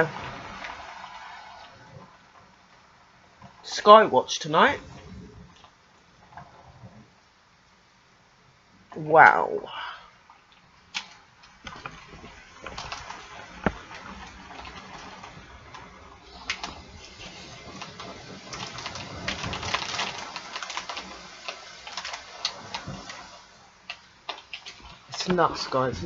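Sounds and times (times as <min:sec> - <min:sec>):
heavy rain falling: 0:00.0 - 0:07.3, 0:08.6 - 0:26.0.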